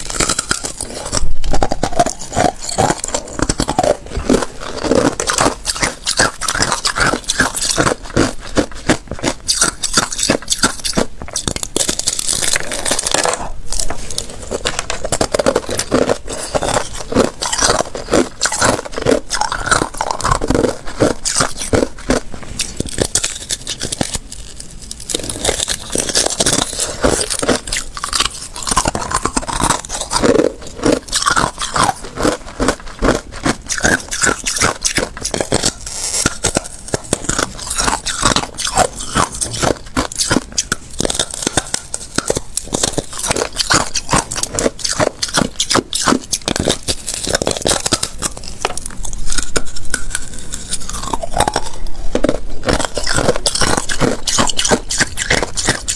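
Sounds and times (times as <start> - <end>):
ice being crunched and chewed: 0.0 - 55.9.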